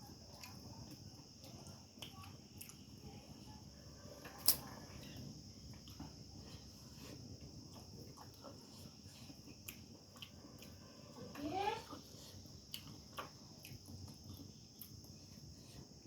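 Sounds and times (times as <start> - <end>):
crickets chirring: 0.0 - 16.0
faint eating clicks: 0.0 - 16.0.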